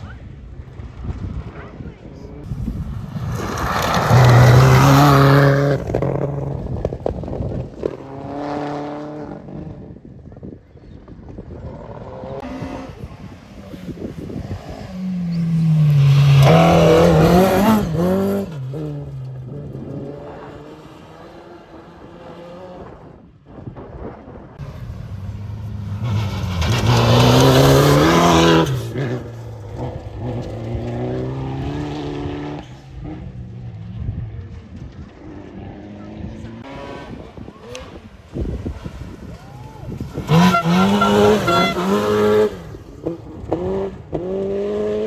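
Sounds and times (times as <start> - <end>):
rally car engine revving: 2.4 - 9.7, 11.8 - 23.1, 24.6 - 45.0.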